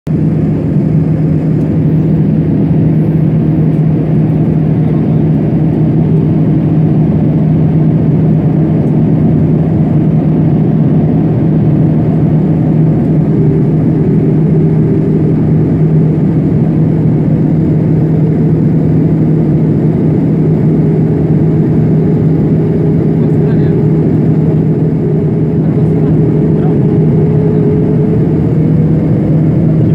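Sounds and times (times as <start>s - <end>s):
jet airliner cabin rumble: 0.1s - 29.9s.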